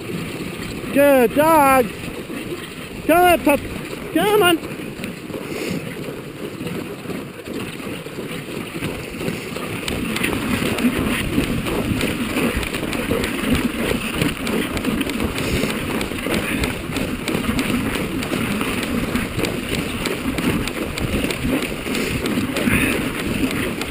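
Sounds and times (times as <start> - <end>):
sled runners sliding over snow: 0.0 - 23.9.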